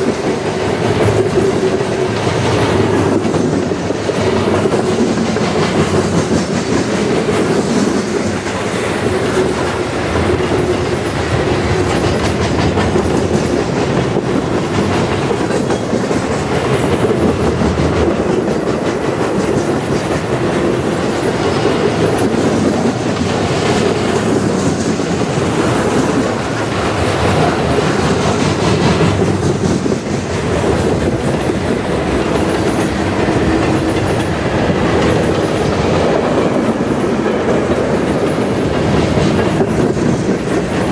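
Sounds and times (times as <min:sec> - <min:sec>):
steel train wheels on rail: 0:00.0 - 0:40.9.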